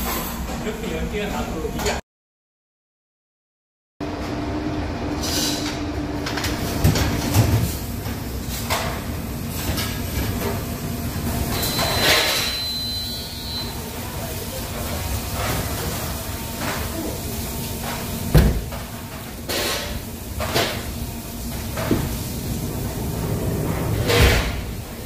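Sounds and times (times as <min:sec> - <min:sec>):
oven fan noise: 0:04.0 - 0:25.0.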